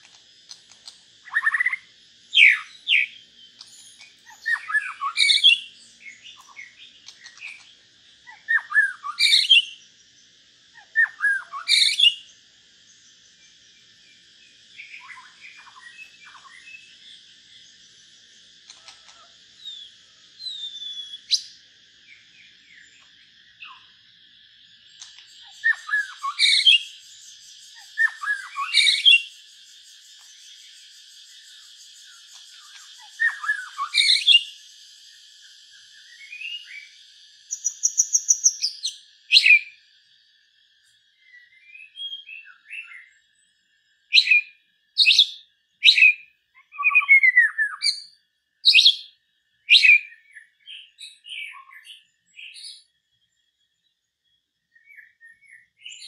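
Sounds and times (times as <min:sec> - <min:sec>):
bird trill: 0:00.0 - 0:39.9, 0:41.2 - 0:56.0
songbird chirping and whistling: 0:00.0 - 0:56.0.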